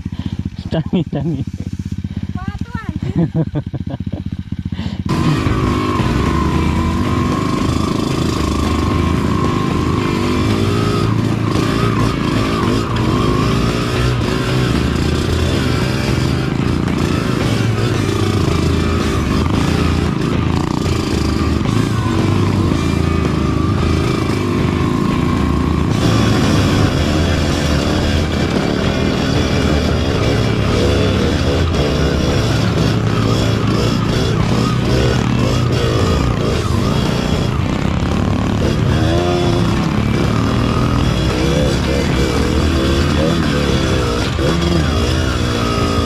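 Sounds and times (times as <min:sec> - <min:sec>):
dirt bike engines: 0:00.0 - 0:46.0.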